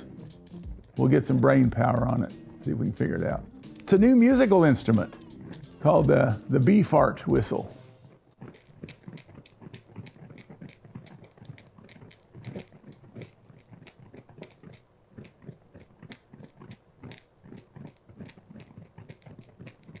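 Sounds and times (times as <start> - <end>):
burning plastic crackling: 0.0 - 20.0.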